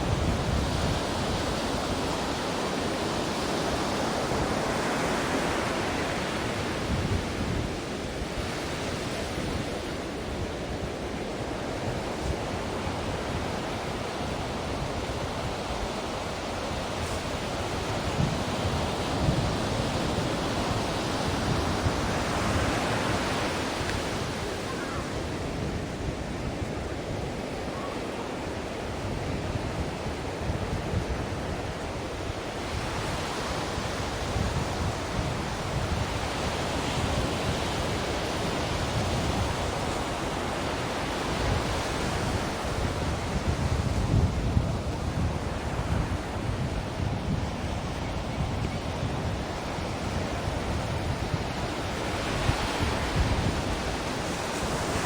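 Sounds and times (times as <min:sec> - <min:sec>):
waves breaking: 0:00.0 - 0:55.0.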